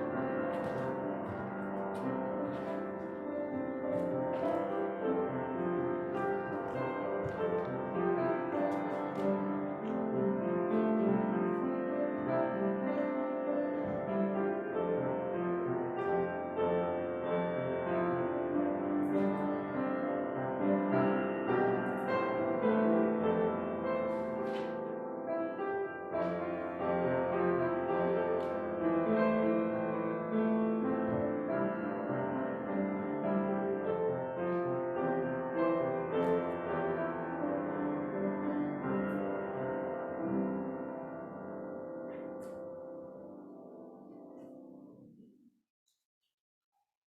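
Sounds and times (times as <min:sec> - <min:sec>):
slow piano music: 0:00.0 - 0:45.4.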